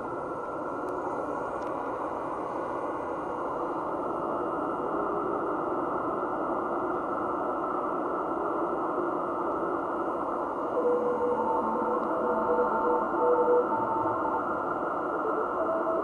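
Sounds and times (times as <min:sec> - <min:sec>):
faint weak radio tones: 0:00.0 - 0:16.0
shortwave radio hiss: 0:00.0 - 0:16.0.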